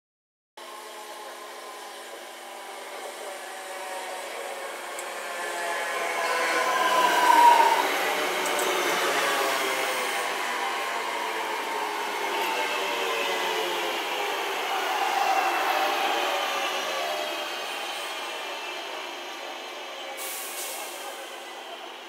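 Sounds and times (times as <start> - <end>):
rolling rail noise: 0.6 - 22.0.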